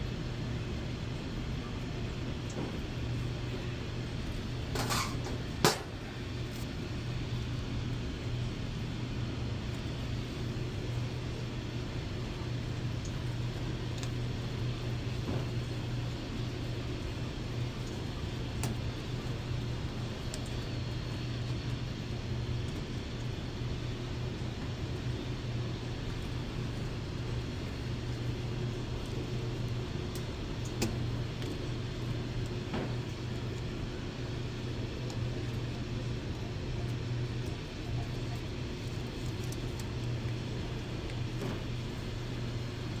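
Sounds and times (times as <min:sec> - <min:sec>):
washing machine humming: 0:00.0 - 0:43.0.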